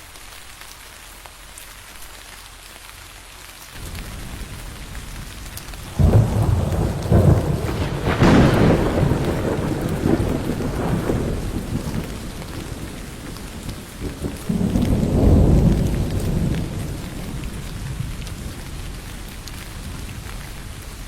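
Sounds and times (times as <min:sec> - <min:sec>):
steady rain: 0:00.0 - 0:21.0
thunder rumbling: 0:03.8 - 0:21.0.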